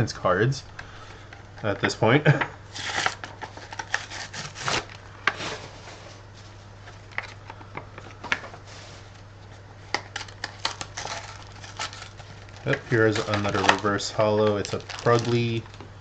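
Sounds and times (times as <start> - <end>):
trading cards rubbing and rustling: 2.7 - 15.8.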